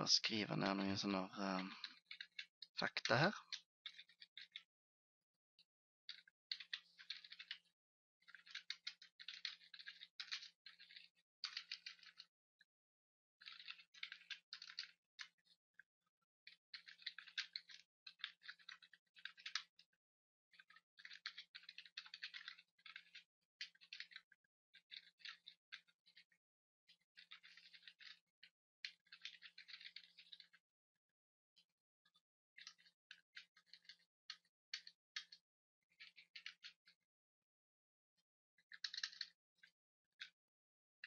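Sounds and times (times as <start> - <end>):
faint keyboard typing: 0.0 - 4.8, 5.5 - 12.8, 13.4 - 37.2, 38.6 - 41.0.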